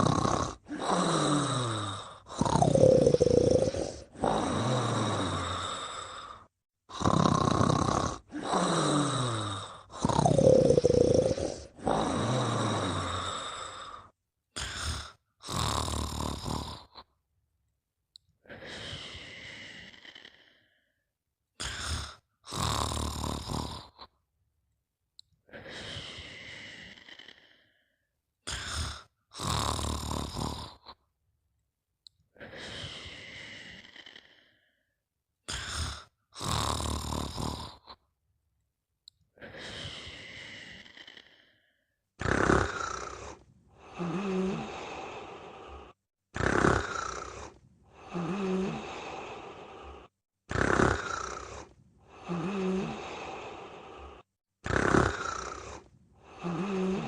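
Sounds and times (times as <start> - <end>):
person snoring: 0.0 - 17.2, 18.4 - 20.8, 21.6 - 24.2, 25.5 - 31.1, 32.3 - 34.8, 35.4 - 38.1, 39.4 - 57.0.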